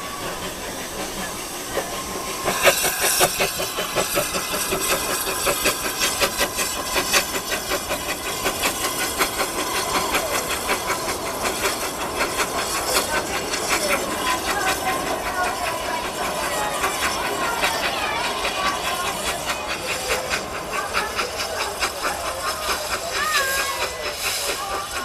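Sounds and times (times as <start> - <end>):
steam hissing: 0.0 - 25.0
steam train passing: 0.0 - 25.0
train wheels knocking: 0.0 - 25.0.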